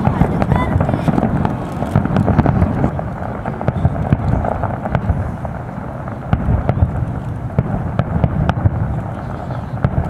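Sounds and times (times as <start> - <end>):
fireworks pops and cracks: 0.0 - 10.0
steady low rumble: 0.0 - 10.0.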